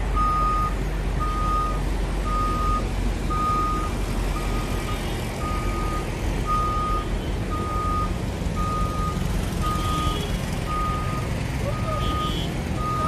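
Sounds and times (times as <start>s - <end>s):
high warning beeps: 0.2s - 13.0s.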